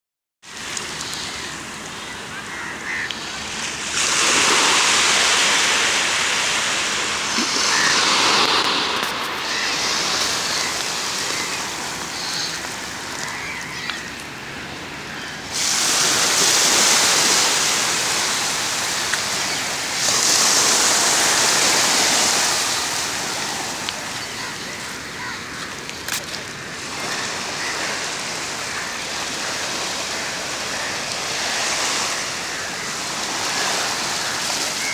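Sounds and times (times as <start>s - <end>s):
small waves washing on shore: 0.4s - 34.9s.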